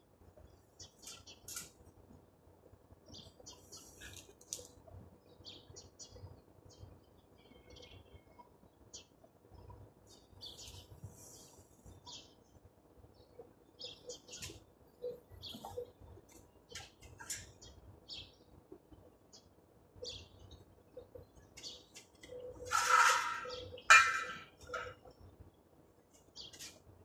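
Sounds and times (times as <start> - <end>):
birds chirping faintly: 0.2 - 27.0.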